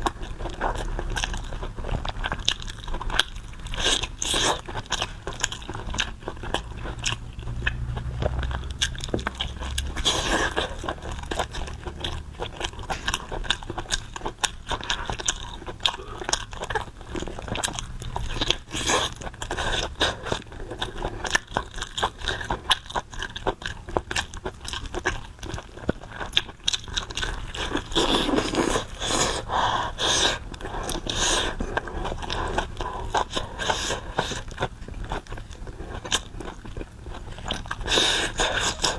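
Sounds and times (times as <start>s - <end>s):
close-miked chewing and crunching: 0.0s - 38.9s.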